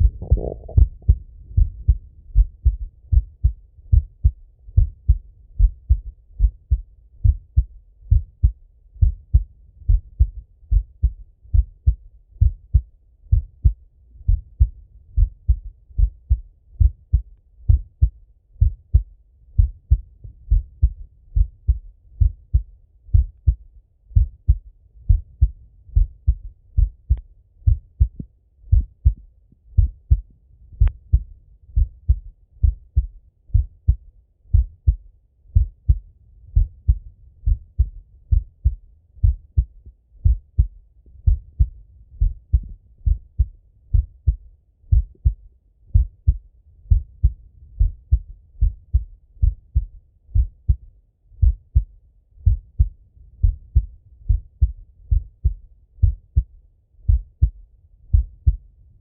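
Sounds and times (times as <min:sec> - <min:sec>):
heartbeat through stethoscope: 0:00.0 - 0:50.8, 0:51.4 - 0:58.7.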